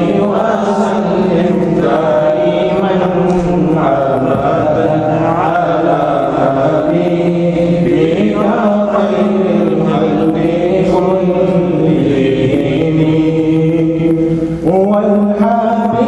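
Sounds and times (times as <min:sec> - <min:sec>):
man chanting unaccompanied: 0:00.0 - 0:16.0.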